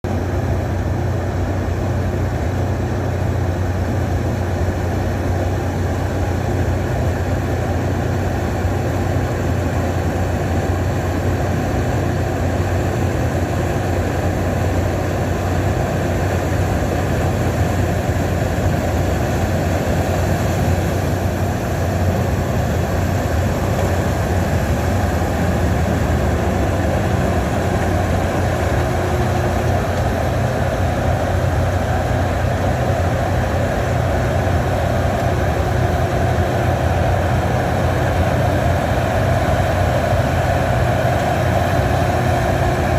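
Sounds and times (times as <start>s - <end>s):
combine harvester engine droning: 0.0s - 42.9s.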